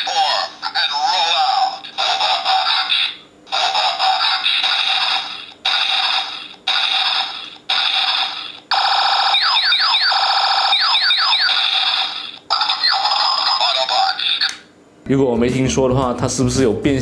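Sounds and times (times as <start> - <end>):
toy buzzing tones: 0.0 - 14.6.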